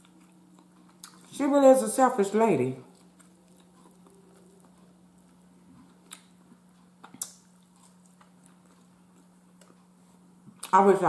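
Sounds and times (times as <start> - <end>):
person chewing food: 0.0 - 1.4, 2.8 - 10.7
steady low hum: 0.0 - 11.0.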